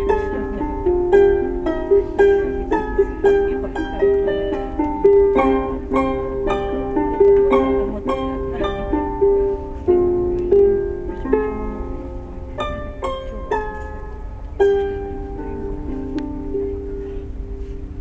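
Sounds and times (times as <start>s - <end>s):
plucked string instrument melody: 0.0s - 18.0s.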